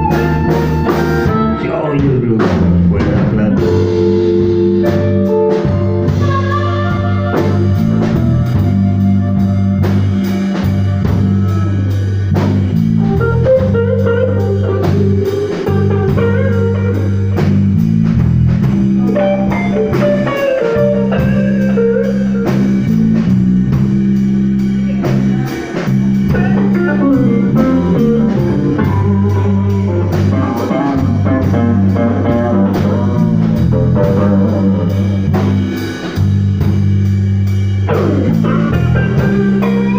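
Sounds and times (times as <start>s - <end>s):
bass guitar: 0.0s - 39.9s
drum kit steady beat: 0.0s - 39.9s
electric guitar lines: 0.0s - 39.9s.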